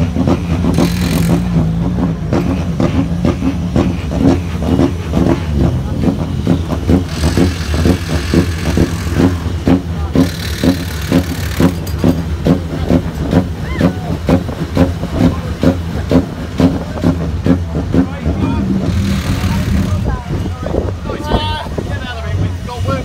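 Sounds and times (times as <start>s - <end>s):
race car engine idling: 0.0s - 23.0s.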